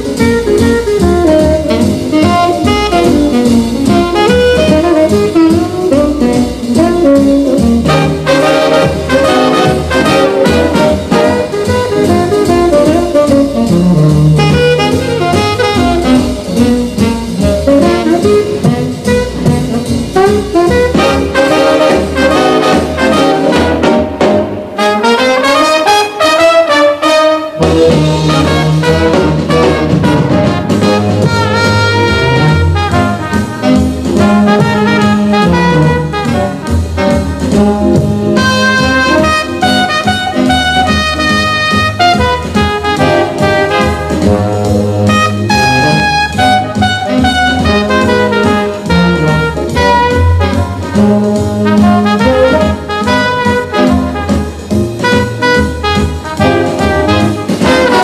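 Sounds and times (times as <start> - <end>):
jazz music with brass: 0.0 - 58.0.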